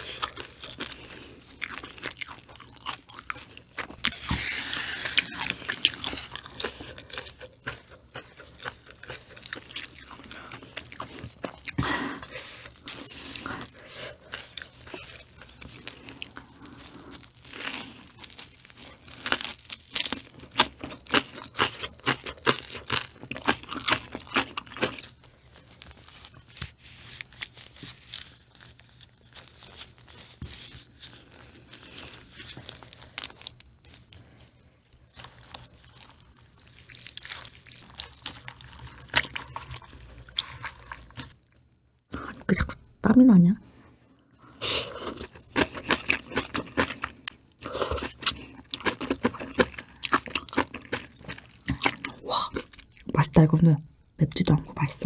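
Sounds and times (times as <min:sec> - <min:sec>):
crunchy food chewing: 0:00.0 - 0:42.5, 0:44.5 - 0:53.2.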